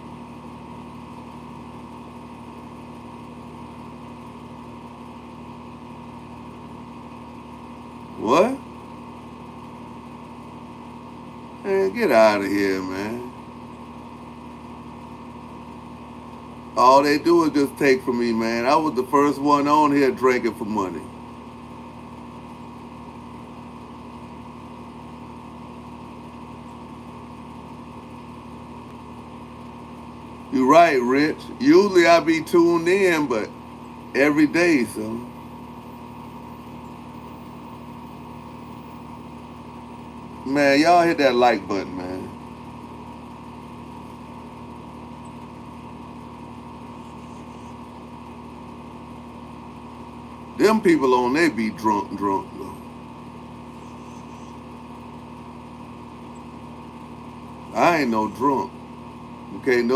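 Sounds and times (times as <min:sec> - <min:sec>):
steady motor hum: 0:00.0 - 0:59.9.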